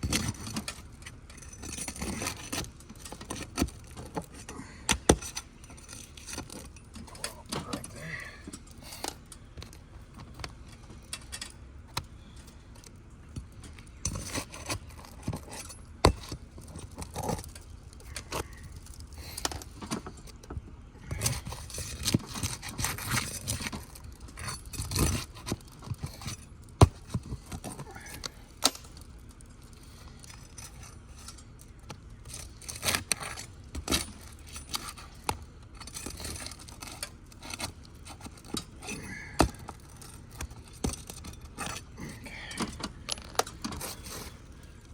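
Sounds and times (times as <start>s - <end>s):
shingles scraping and tearing: 0.0s - 44.9s.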